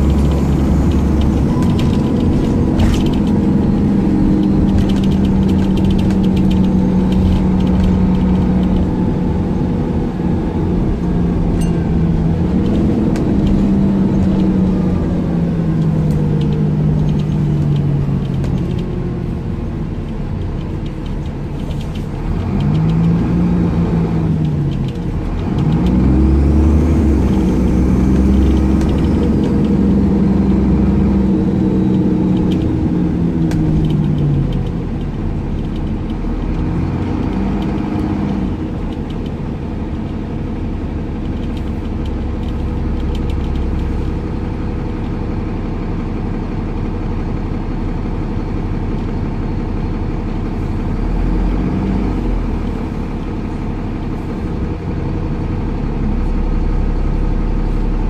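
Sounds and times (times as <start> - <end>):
bus diesel engine rumbling: 0.0 - 58.0.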